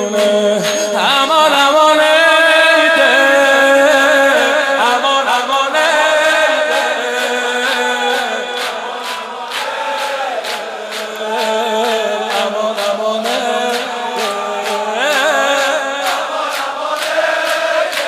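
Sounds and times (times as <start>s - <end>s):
men chanting in unison: 0.0s - 18.0s
rhythmic chest-beating: 3.1s - 18.0s.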